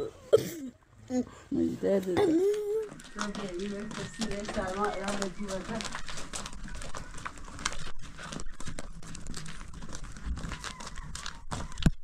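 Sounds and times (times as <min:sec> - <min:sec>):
footsteps on gravel: 0:02.0 - 0:12.0.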